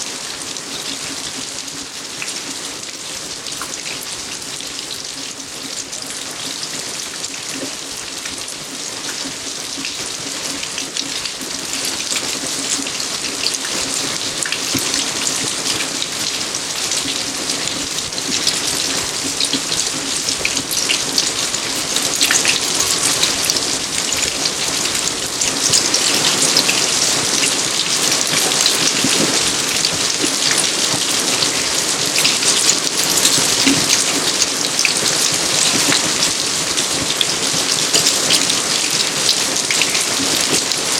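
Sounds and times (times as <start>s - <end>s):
rain pattering on garden: 0.0s - 40.9s.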